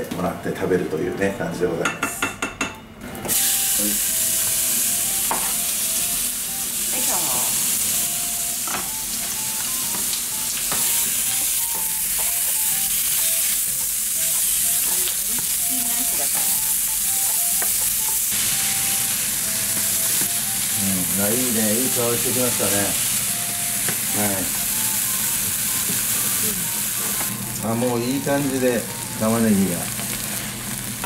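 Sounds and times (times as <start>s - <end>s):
onion sizzling in a pan: 3.2s - 31.0s.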